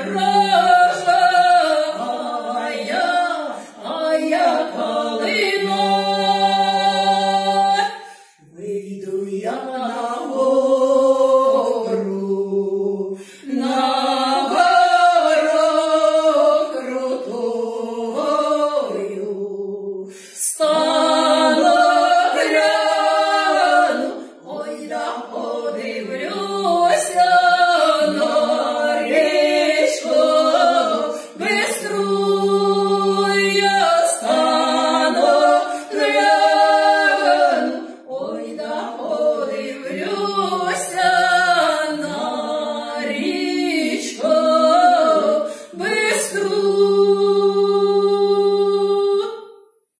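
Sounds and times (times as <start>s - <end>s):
women singing a cappella: 0.0s - 49.9s.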